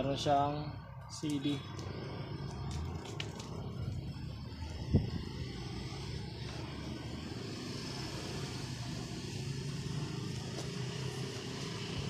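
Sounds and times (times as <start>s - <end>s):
steady low motor hum: 0.0s - 12.0s.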